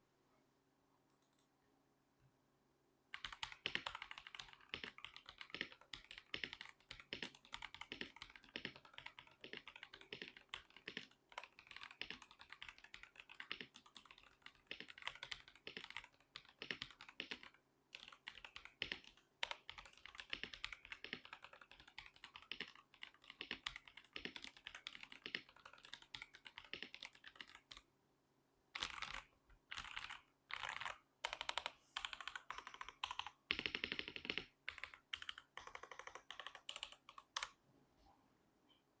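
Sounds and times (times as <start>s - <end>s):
mechanical keyboard typing: 3.1s - 27.8s, 28.8s - 37.6s.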